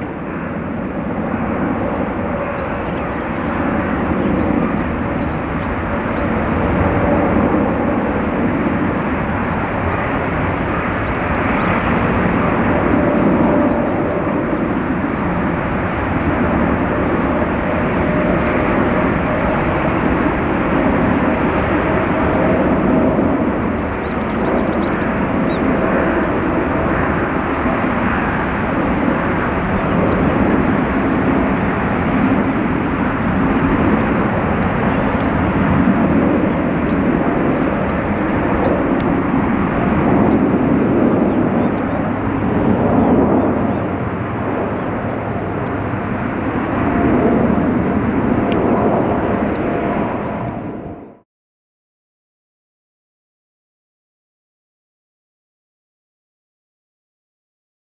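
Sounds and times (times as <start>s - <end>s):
jet engines roaring: 0.0s - 51.2s.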